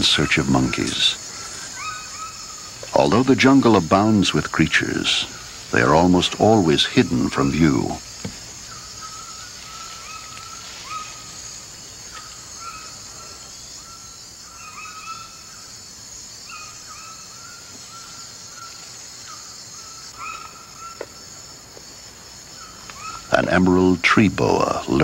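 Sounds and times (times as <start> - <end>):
high-pitched insect drone: 0.0 - 25.0
repeated animal calls: 0.0 - 25.0.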